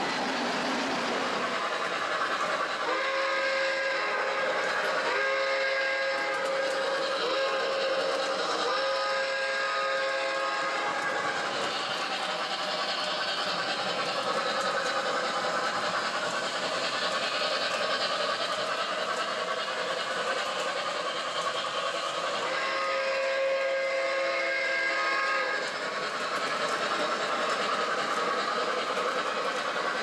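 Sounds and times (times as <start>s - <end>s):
model train running on track: 0.0s - 30.0s.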